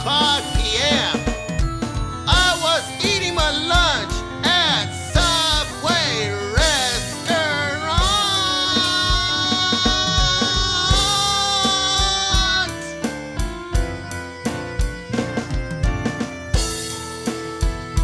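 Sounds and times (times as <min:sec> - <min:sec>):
gliding lead melody: 0:00.0 - 0:18.0
pop instrumental with kick drum: 0:00.0 - 0:18.0.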